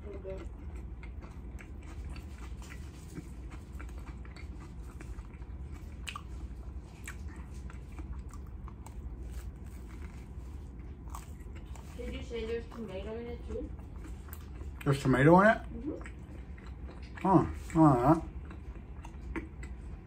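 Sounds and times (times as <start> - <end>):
close chewing and crunching: 0.0 - 20.0
steady low hum: 0.0 - 20.0.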